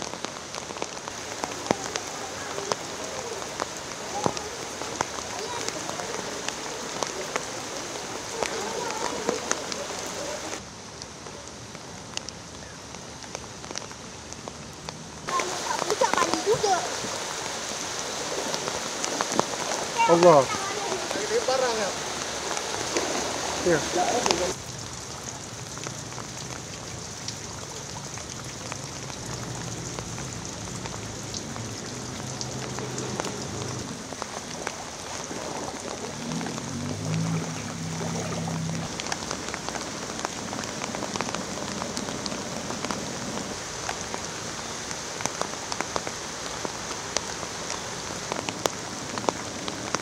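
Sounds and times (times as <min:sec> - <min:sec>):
heavy rain on water: 0:00.0 - 0:50.0.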